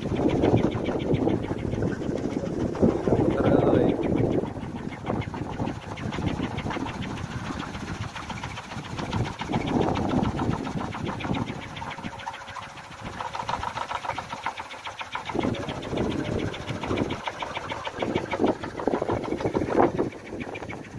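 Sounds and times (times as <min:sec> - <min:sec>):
wind propeller buzzing drone: 0:00.0 - 0:20.9.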